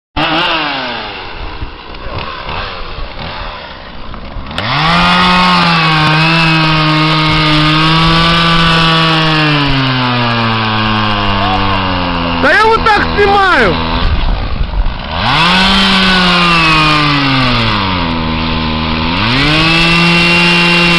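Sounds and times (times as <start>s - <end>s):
chainsaw engine revving: 0.2s - 20.9s.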